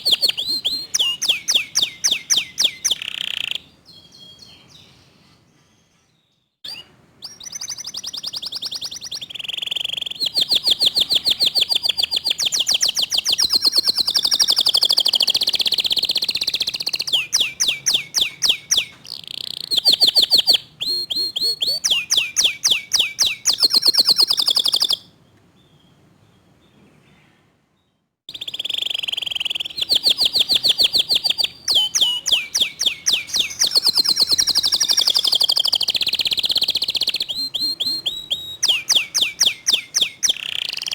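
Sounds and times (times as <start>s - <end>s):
canary singing trills: 0.0s - 6.0s, 6.6s - 26.6s, 28.3s - 40.9s.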